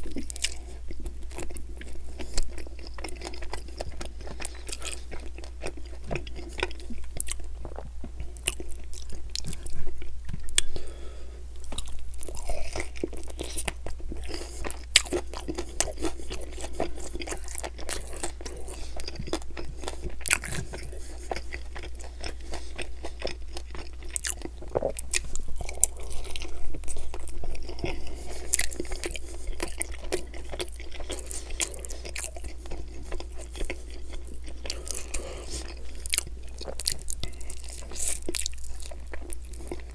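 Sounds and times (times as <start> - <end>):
chewing and biting: 0.0 - 10.7, 11.6 - 39.9.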